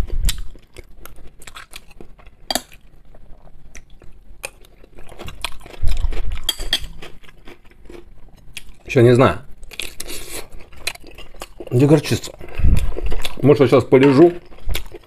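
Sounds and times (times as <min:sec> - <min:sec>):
chewing: 0:00.0 - 0:08.9, 0:09.6 - 0:15.0.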